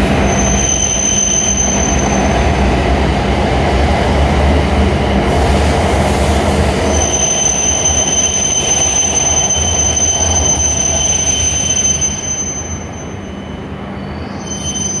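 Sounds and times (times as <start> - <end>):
high whine of train: 0.0 - 15.0
train passing rumble: 0.0 - 15.0.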